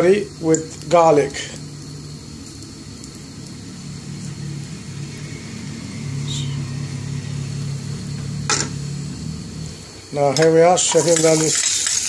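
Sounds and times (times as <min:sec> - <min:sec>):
gas range low rumble and hum: 0:00.0 - 0:11.8.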